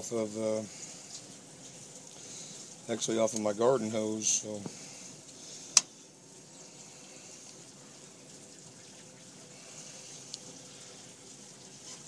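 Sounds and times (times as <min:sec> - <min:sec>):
running water filling tank: 0:00.0 - 0:12.0.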